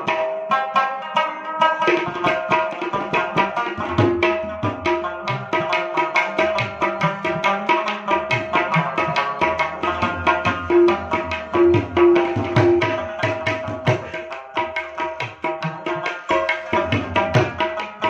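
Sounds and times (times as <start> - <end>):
tabla drumming: 0.0 - 18.0.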